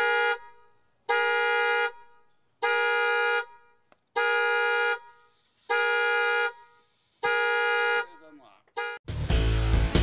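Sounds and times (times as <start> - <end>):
car alarm horn honking: 0.0 - 9.0.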